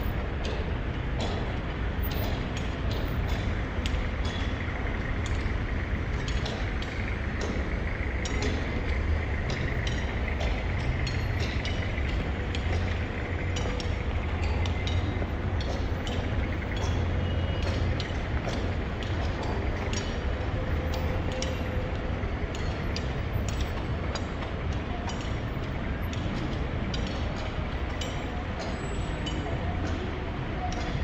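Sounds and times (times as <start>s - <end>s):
traffic rumble: 0.0s - 31.0s.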